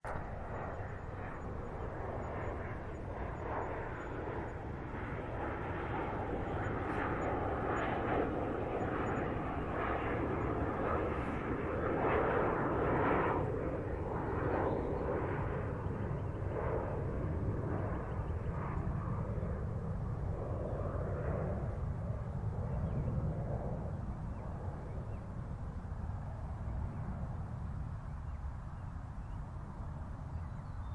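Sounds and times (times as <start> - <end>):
jet airplane flying past: 0.0 - 30.9.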